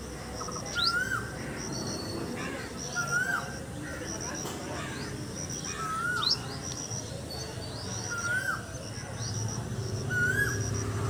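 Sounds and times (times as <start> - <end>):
faint high chirps and ticks: 0.0 - 11.0.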